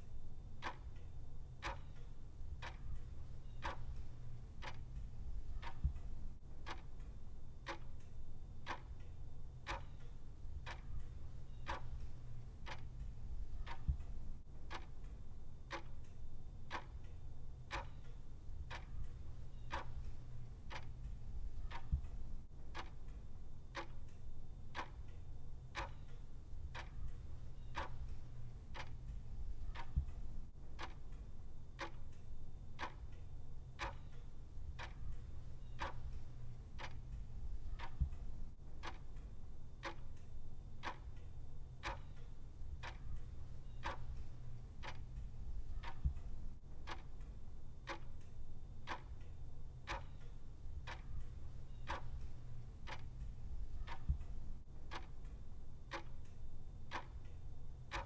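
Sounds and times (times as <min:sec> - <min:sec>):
faint low hum: 0:00.0 - 0:58.0
clock ticking: 0:00.6 - 0:58.0.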